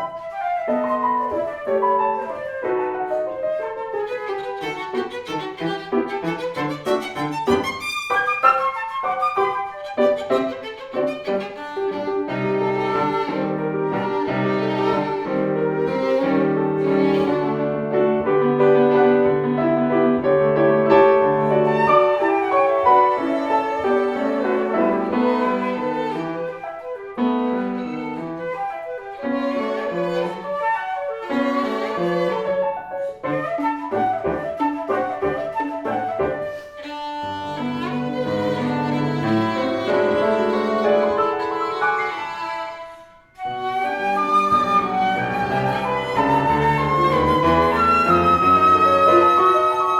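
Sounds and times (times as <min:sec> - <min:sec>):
piano chords: 0:00.0 - 0:49.9
violin and cello: 0:03.6 - 0:19.2, 0:20.5 - 0:49.9.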